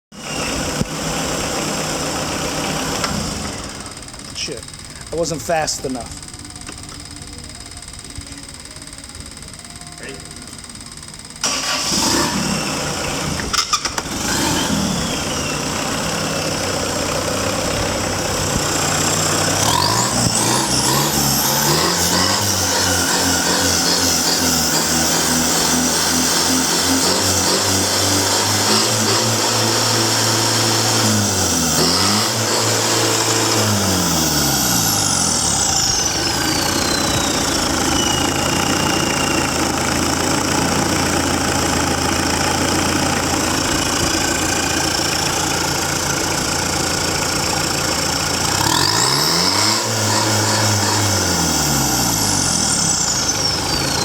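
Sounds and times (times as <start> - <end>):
diesel engine running: 0.2 - 54.0.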